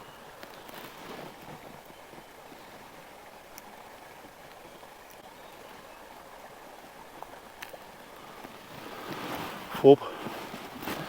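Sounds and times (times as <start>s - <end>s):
river water lapping: 0.0s - 11.0s.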